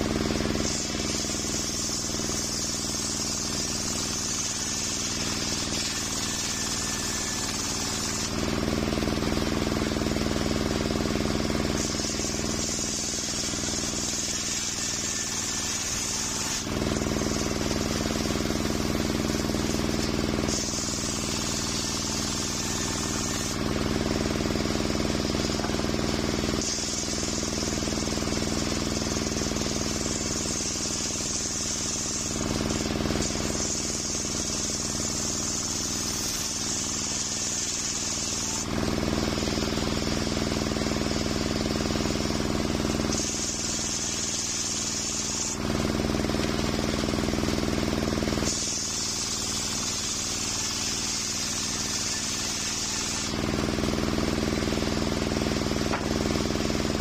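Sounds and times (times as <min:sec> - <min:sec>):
circular saw ripping wood: 0:00.0 - 0:57.0.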